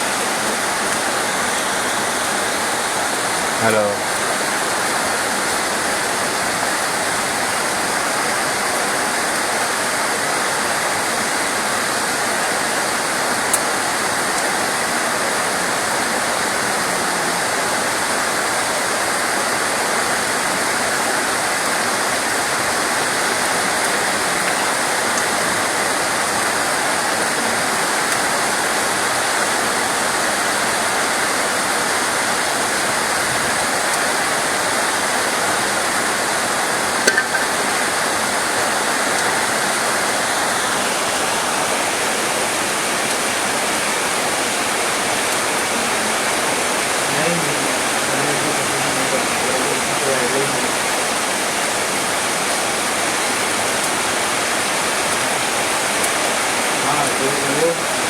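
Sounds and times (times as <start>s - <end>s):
dense rain hissing: 0.0s - 58.0s.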